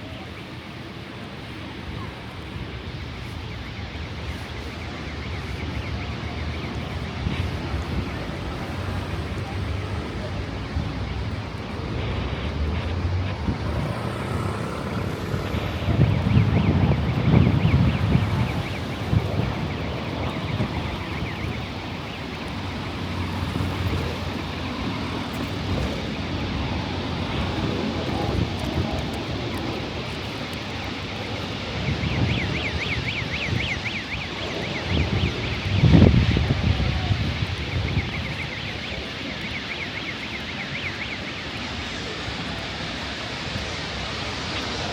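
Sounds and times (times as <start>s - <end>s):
passing traffic rumble: 0.0s - 44.9s
wind buffeting microphone: 0.0s - 44.9s.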